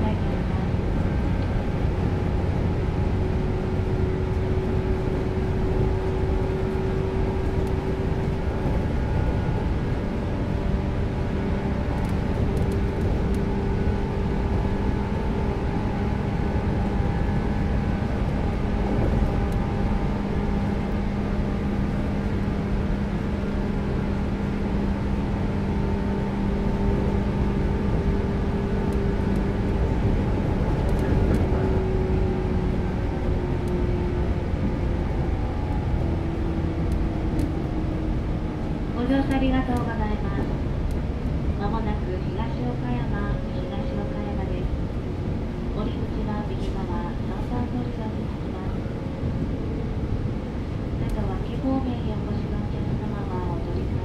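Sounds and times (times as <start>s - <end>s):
electric train motors humming: 0.0s - 54.0s
wheels rumbling on rails: 0.0s - 54.0s.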